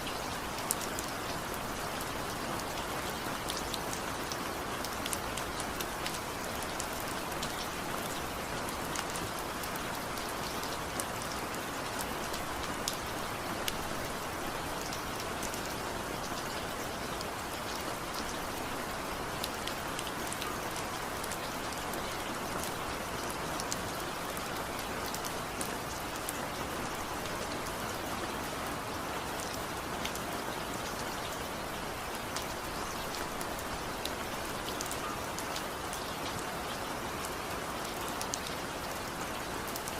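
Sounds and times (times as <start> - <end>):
rain falling: 0.0 - 39.9
raindrops ticking on surface: 0.0 - 39.9.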